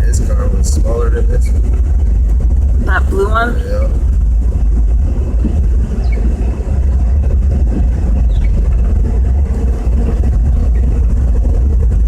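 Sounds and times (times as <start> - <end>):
car engine rumble from cabin: 0.0 - 12.0
tyres on snowy road: 0.0 - 12.0.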